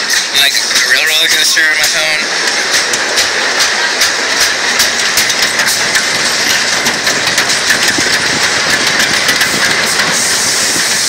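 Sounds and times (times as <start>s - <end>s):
roller coaster wheels rattling: 0.0s - 11.0s.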